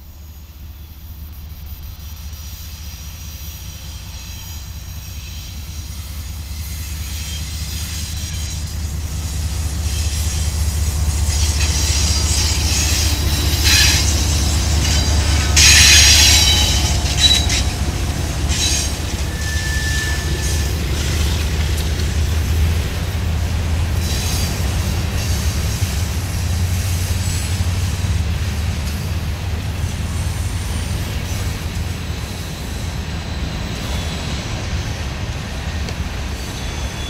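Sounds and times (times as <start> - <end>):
train rumbling past: 0.0 - 37.0
train wheels squealing: 0.0 - 37.0.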